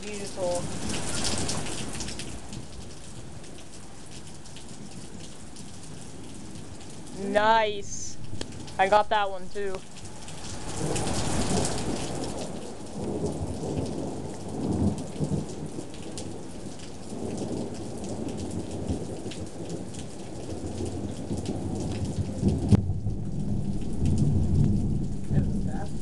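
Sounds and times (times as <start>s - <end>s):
thunder rumbling: 0.0s - 3.8s, 6.3s - 26.0s
raindrops pattering and dripping: 0.0s - 26.0s
steady downpour of rain: 0.0s - 26.0s.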